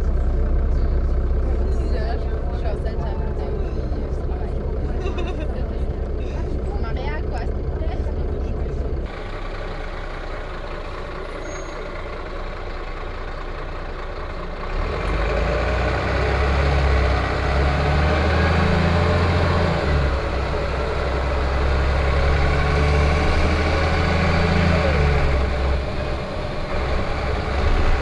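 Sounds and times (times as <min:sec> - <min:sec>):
bus diesel engine drone: 0:00.0 - 0:28.0.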